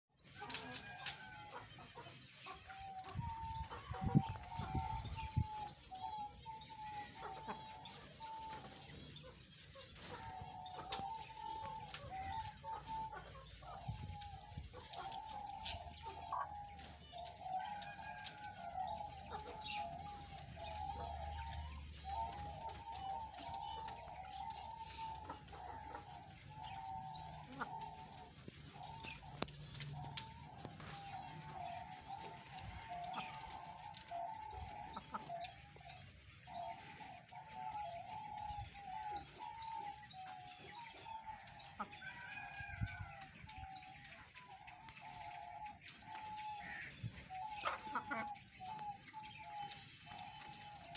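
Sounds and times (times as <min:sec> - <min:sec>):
chickens calling: 0:00.1 - 0:50.9
hens clucking: 0:00.2 - 0:50.9.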